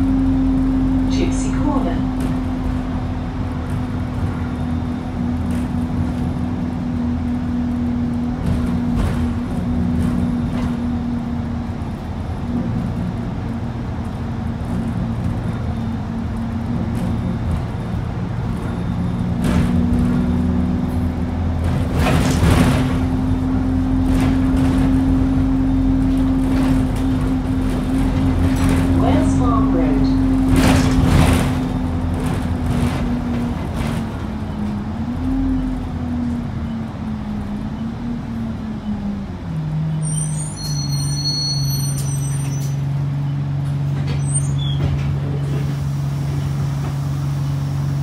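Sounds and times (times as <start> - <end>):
bus engine whine: 0.0 - 48.0.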